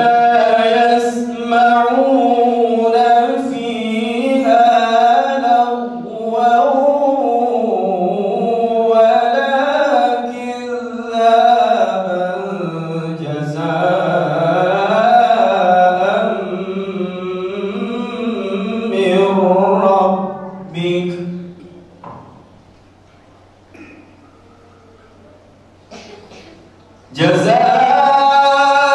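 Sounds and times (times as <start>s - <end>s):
man chanting melodically: 0.0s - 21.8s, 27.1s - 28.9s.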